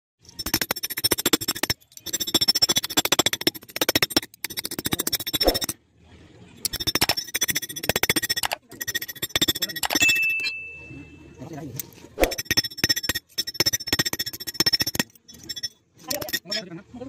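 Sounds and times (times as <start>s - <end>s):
hammer striking metal spoon: 0.3s - 5.8s, 6.7s - 10.8s, 12.2s - 16.6s.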